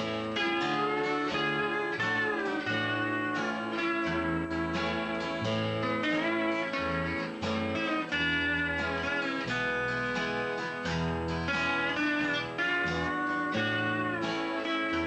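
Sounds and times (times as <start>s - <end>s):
electric bass guitar: 0.0s - 15.0s
lap steel guitar melody: 0.0s - 15.0s
strummed acoustic guitar: 0.0s - 15.0s.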